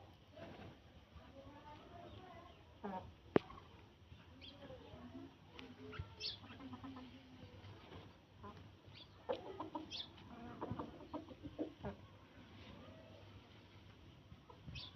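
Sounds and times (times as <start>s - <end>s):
chickens clucking: 2.1s - 14.9s.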